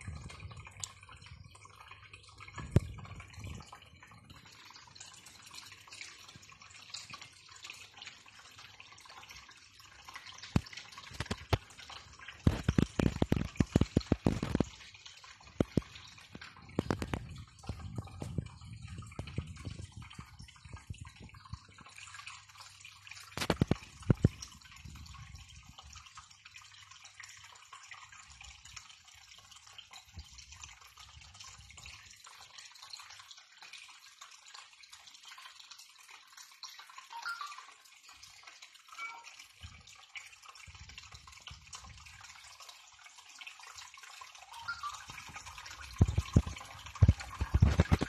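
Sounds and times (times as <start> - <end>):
aquarium water bubbling: 0.0 - 48.0.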